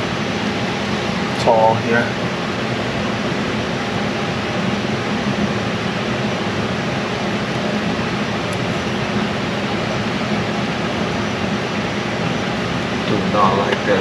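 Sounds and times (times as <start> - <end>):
fan running: 0.0 - 14.0.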